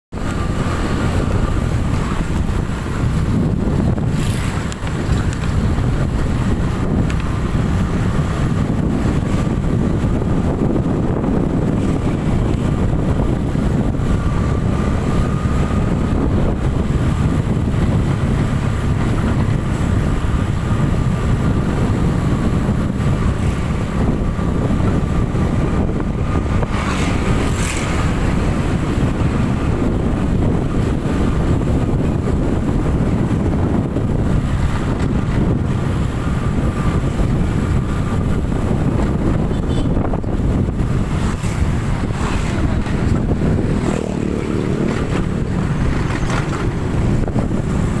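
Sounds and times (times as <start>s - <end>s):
vehicle road noise: 0.1s - 48.0s
wind on microphone: 0.1s - 48.0s.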